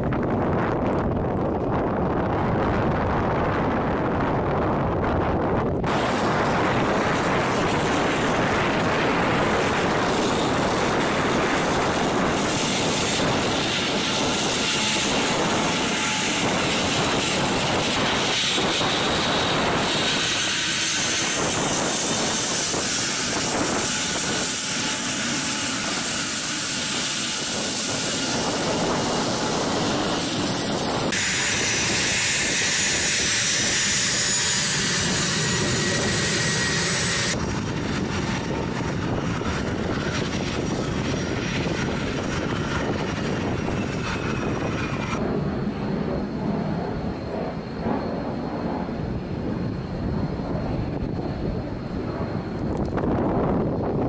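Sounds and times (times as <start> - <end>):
jet engines taxiing: 0.0 - 54.0.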